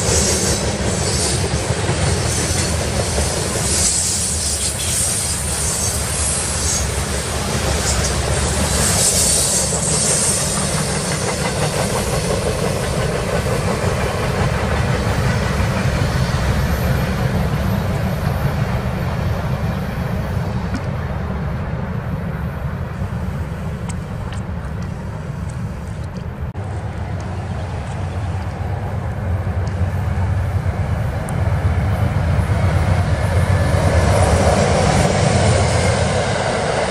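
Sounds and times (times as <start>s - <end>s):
freight cars rolling on rails: 0.0s - 36.9s.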